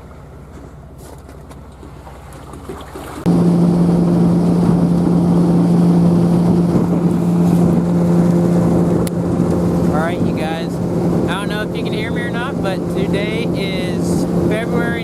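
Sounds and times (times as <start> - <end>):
outboard motor running: 0.0 - 15.0
water noise: 0.0 - 15.0
wind: 0.0 - 15.0.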